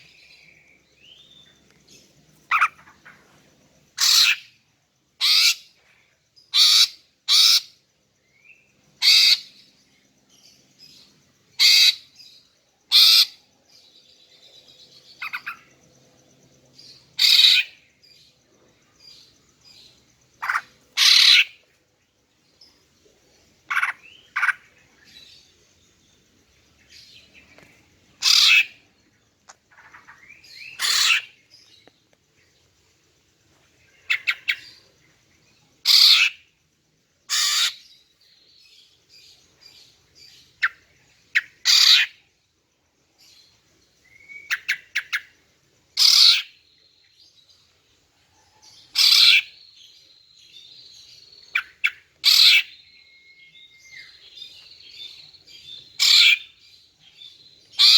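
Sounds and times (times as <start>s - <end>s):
faint birds twittering: 0.0s - 57.9s.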